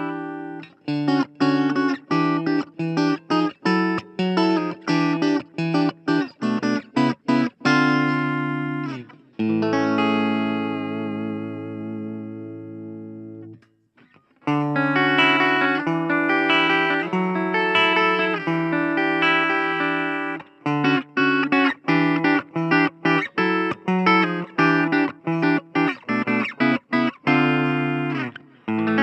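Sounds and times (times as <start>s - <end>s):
electric guitar chords: 0.0s - 29.0s.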